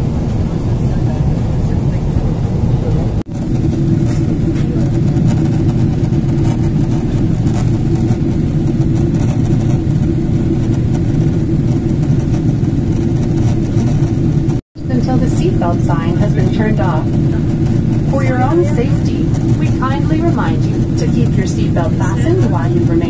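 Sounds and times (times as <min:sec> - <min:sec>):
airliner cabin roar: 0:00.0 - 0:23.0.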